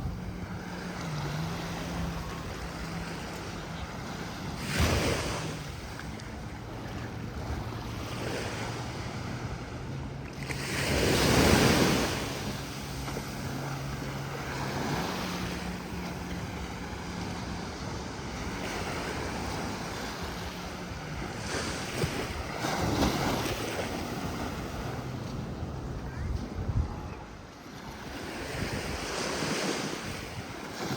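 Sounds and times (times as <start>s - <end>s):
waves breaking: 0.0s - 30.9s
wind on microphone: 0.0s - 30.9s.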